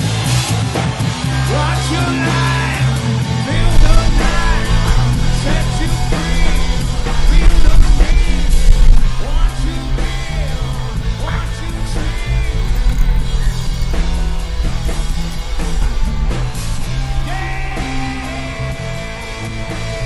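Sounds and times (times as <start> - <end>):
rock music with vocals: 0.0 - 20.0.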